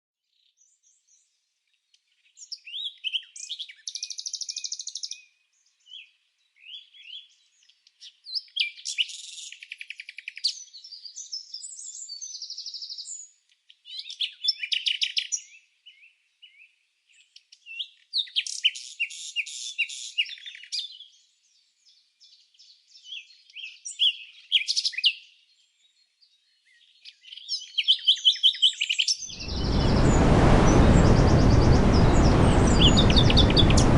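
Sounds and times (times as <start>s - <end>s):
songbird chirps and trills: 0.4s - 30.0s.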